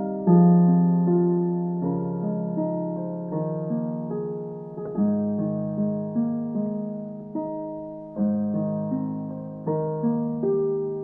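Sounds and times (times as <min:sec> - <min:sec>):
piano notes and chords: 0:00.0 - 0:11.0.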